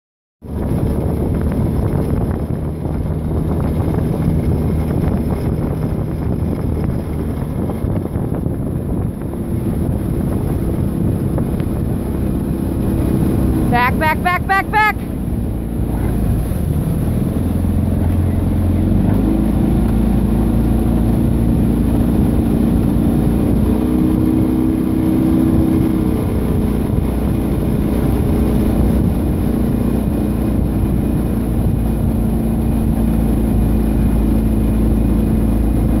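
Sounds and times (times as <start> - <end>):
outboard motor running: 0.4 - 36.0.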